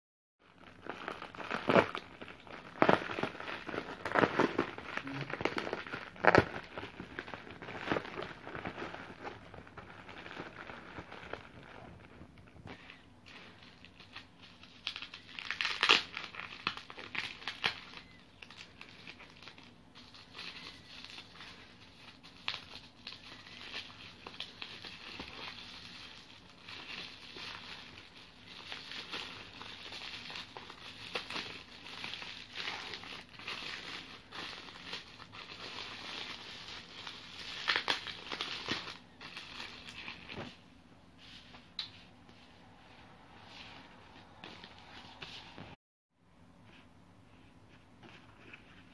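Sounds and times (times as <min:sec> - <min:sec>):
bubble wrap crinkling: 0:00.4 - 0:45.8, 0:46.7 - 0:48.9.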